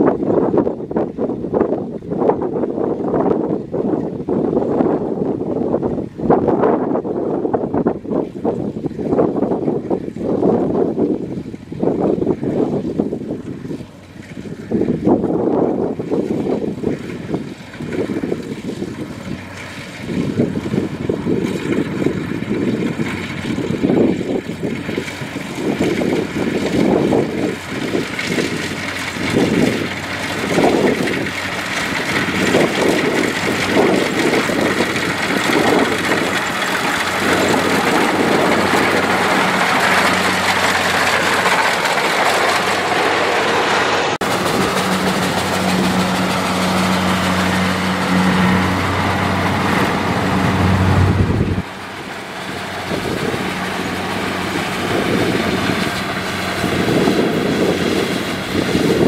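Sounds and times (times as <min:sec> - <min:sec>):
combine harvester engine rumbling: 0:02.8 - 0:59.0.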